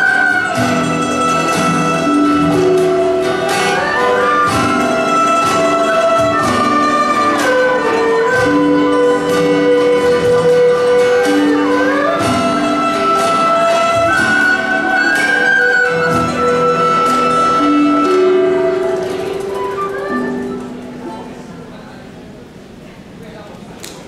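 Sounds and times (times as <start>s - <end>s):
erhu melody: 0.0s - 21.5s
plucked guitar and lute chords: 0.0s - 21.6s.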